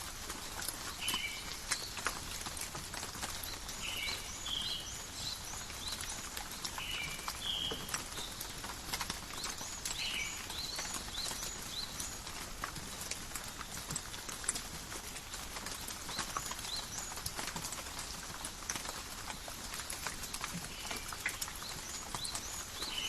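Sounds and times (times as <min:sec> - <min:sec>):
close raindrops ticking: 0:00.0 - 0:23.0
rain falling in a forest: 0:00.0 - 0:23.0.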